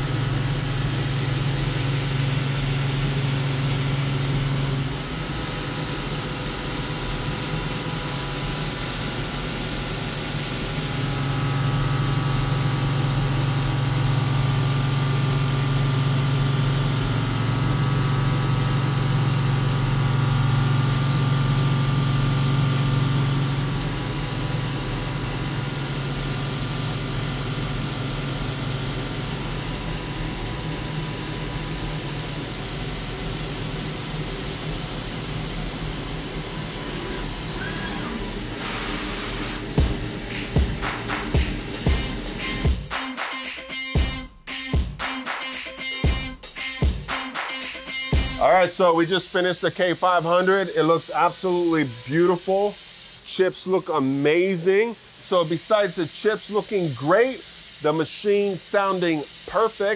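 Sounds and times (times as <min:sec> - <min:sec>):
milling machine cutting metal: 0:00.0 - 0:42.8, 0:47.8 - 0:59.9.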